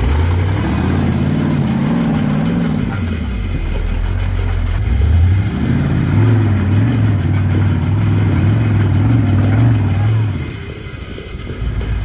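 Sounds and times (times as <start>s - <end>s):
buggy engine revving under load: 0.0s - 12.0s.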